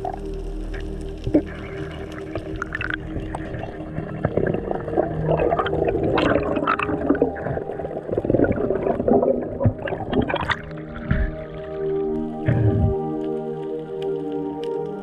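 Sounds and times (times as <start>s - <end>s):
background music: 0.0s - 15.0s
underwater gurgling and bubbles: 0.0s - 15.0s.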